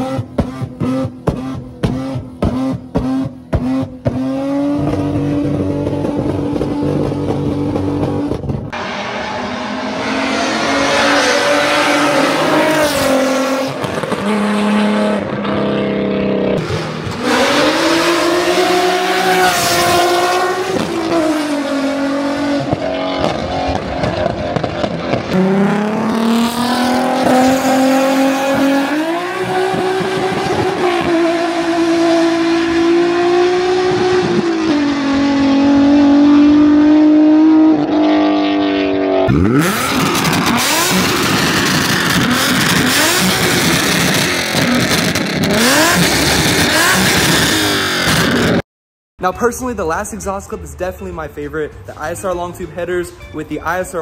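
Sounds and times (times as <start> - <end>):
car engine revving: 0.0 - 48.6.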